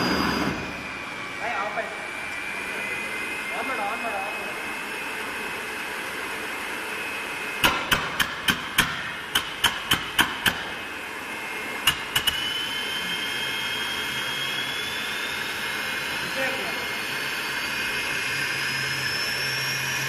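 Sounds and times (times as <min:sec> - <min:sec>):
turbine whistling whine: 0:00.0 - 0:20.0.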